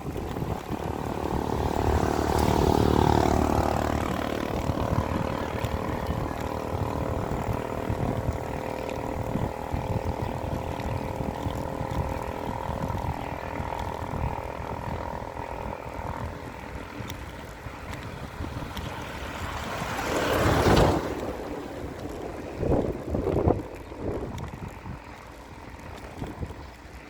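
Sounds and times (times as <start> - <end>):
vehicle engine drone: 0.0 - 27.0
wind rumbling on microphone: 0.0 - 27.0.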